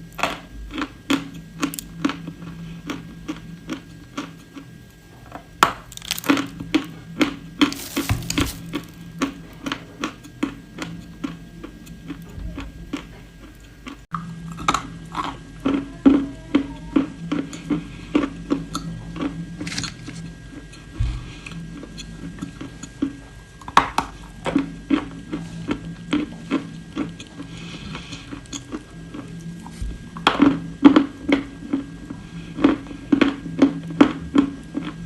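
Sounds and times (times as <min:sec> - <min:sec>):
chewing with brittle crunches: 0:00.0 - 0:35.0.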